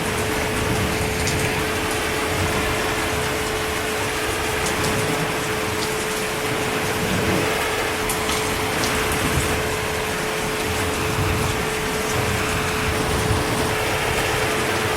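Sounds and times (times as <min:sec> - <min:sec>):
heavy rainfall: 0:00.0 - 0:14.9
steady hum: 0:00.0 - 0:14.9.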